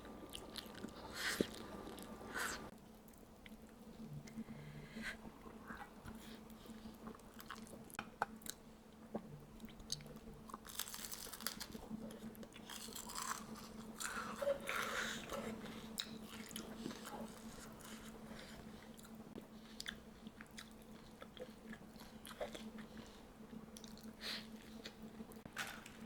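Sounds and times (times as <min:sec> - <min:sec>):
person chewing crunchy food: 0:00.3 - 0:02.7, 0:05.4 - 0:25.3.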